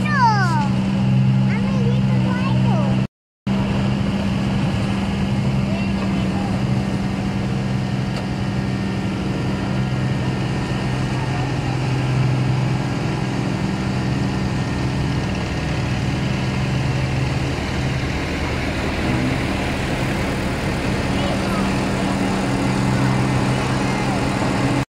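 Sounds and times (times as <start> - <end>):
diesel engine humming: 0.0 - 24.9.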